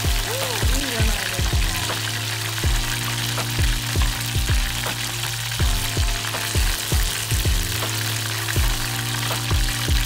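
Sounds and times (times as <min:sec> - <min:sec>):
background music with a beat: 0:00.0 - 0:10.0
hot oil sizzling and crackling: 0:00.0 - 0:10.0.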